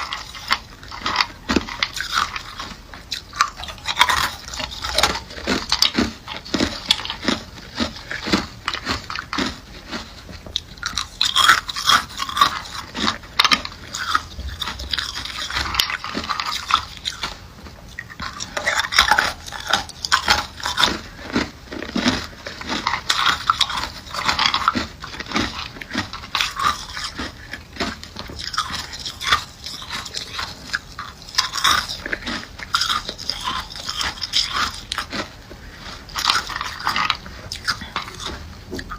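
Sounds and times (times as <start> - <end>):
person chewing ice: 0.0 - 38.9.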